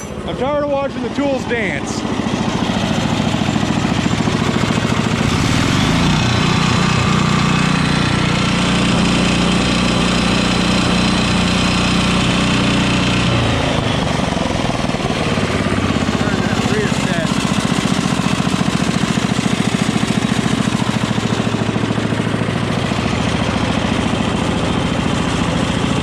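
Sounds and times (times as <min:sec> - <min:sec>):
welding generator engine running: 0:00.0 - 0:26.0.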